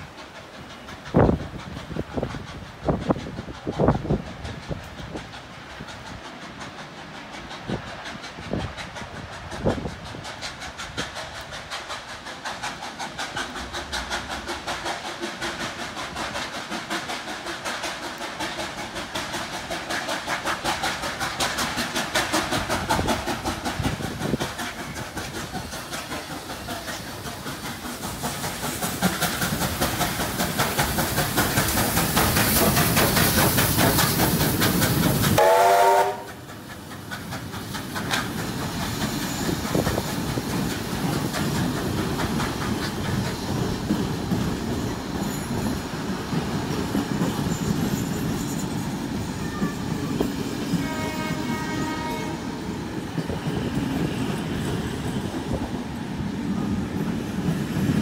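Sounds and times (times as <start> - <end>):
steam hissing: 0.0 - 58.0
steam locomotive exhaust beating: 0.0 - 58.0.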